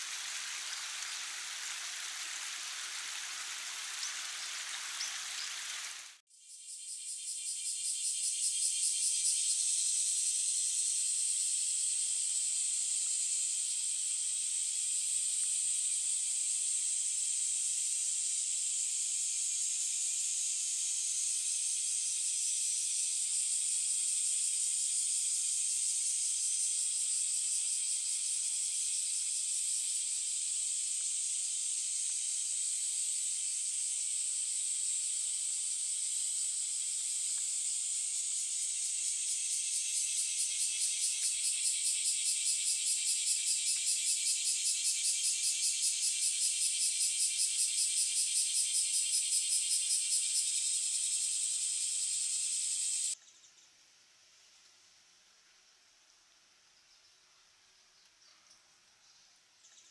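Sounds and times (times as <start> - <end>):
insects buzzing: 0.0 - 53.6.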